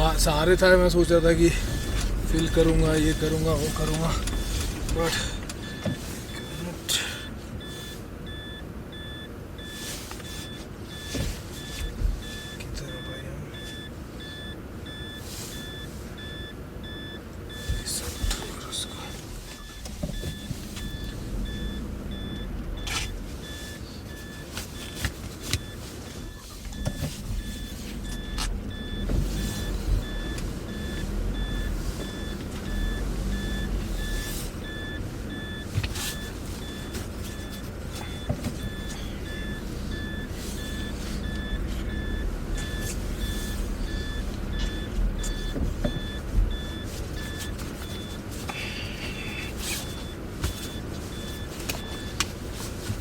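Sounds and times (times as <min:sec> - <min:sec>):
rapid electronic warning beep: 0:00.0 - 0:52.2
vehicle engine rumble: 0:00.0 - 0:53.0.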